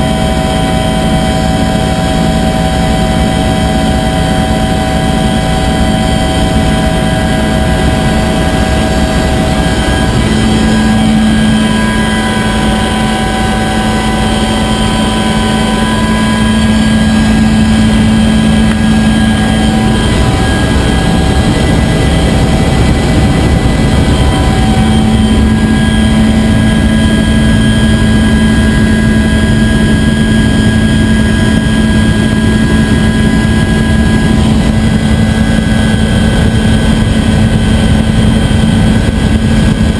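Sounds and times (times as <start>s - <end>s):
helicopter running: 0.0s - 39.9s
whining tones: 0.0s - 39.9s.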